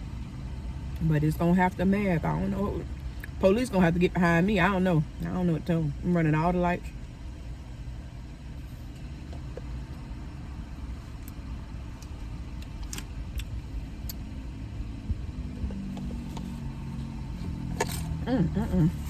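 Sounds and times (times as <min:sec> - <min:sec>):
car engine cabin drone: 0:00.0 - 0:19.0.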